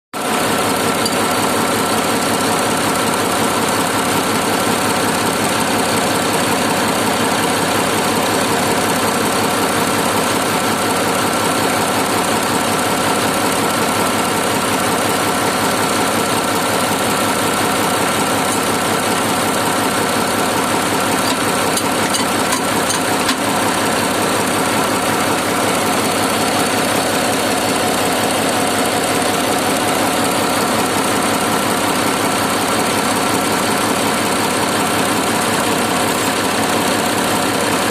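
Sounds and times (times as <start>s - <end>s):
bulldozer diesel engine running: 0.2s - 37.9s.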